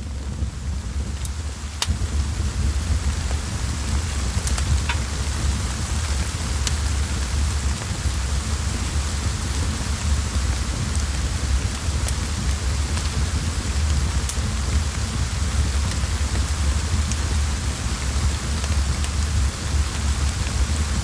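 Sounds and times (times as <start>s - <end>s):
steady rain: 0.0s - 21.0s
wood fire crackles: 0.0s - 21.0s
low rumble: 0.1s - 21.0s.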